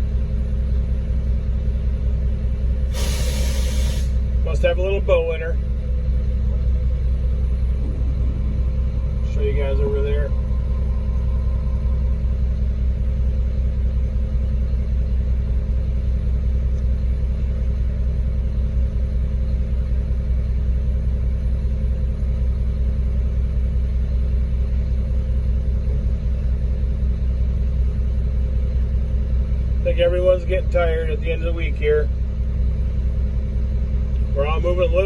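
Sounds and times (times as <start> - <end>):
diesel engine low rumble: 0.0 - 35.0.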